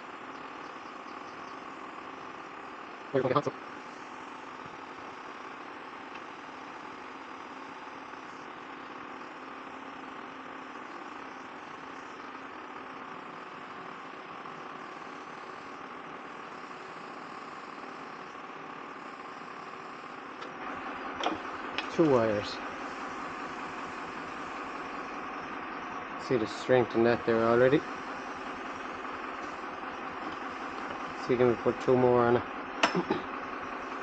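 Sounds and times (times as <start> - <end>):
soldering iron burner hissing: 0.0 - 34.0.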